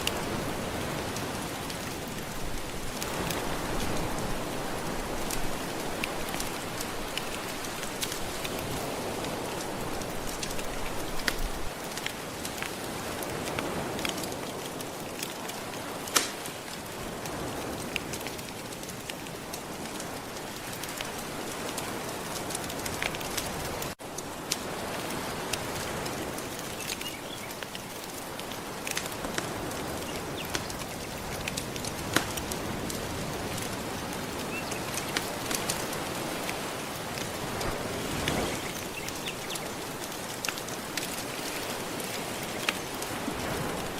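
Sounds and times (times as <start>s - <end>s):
gentle ocean waves: 0.0s - 43.9s
wood fire crackling: 0.0s - 43.9s.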